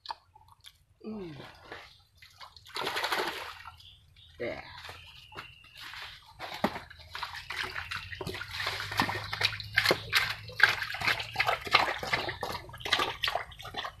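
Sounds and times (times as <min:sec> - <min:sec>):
mud splashing and squelching: 0:00.0 - 0:14.0.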